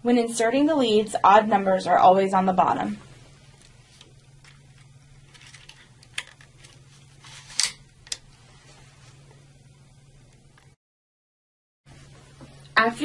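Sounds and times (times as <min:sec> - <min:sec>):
steady low hum: 0:00.0 - 0:10.8, 0:11.9 - 0:13.0.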